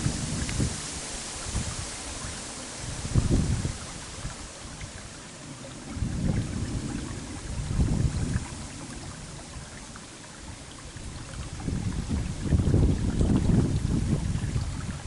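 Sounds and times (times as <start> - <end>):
faint steady hiss: 0.0 - 15.0
wind buffeting microphone: 0.0 - 15.0.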